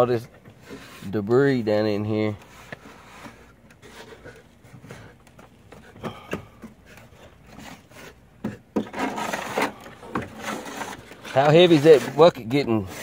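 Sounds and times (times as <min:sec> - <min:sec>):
hand scraping mud in gutter: 0:00.0 - 0:13.0.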